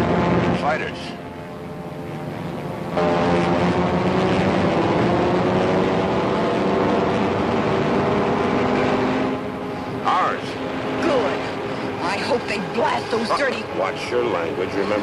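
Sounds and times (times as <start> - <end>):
fighter jet engines flying over: 0.0 - 15.0.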